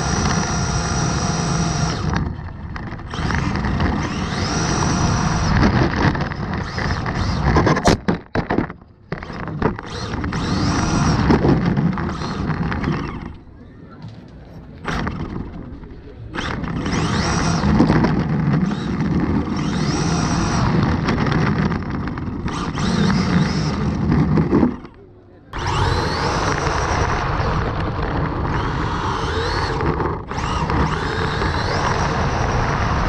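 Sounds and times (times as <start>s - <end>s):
electric motor whine: 0.0s - 8.1s, 9.1s - 13.5s, 14.7s - 33.0s
gears and tyres rumbling: 0.0s - 33.0s.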